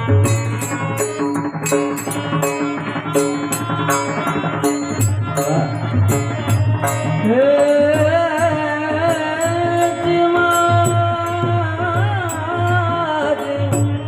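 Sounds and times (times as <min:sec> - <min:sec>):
sustained instrumental notes: 0:00.0 - 0:11.4
hand drum beat: 0:00.0 - 0:13.9.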